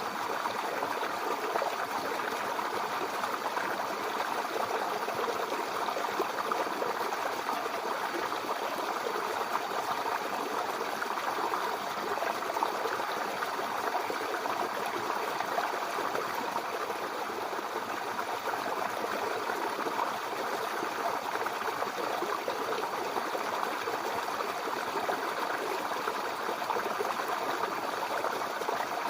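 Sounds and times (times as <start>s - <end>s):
brook water running: 0.0s - 29.0s.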